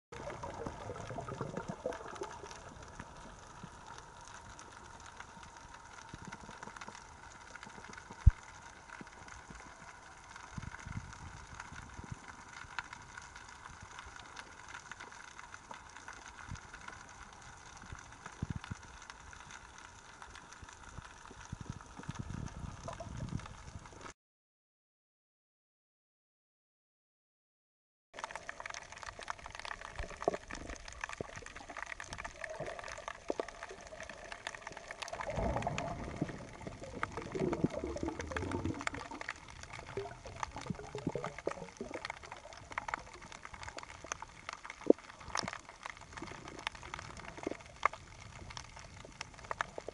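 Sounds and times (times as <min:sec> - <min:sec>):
low water surges: 0:00.1 - 0:24.1, 0:28.2 - 0:49.9
muffled underwater hiss: 0:00.2 - 0:24.1, 0:28.2 - 0:49.9.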